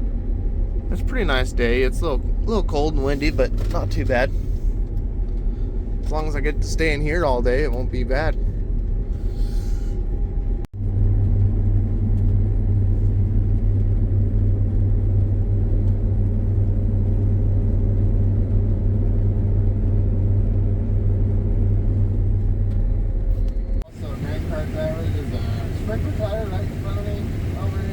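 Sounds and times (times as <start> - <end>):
combine harvester drone: 0.0 - 27.9.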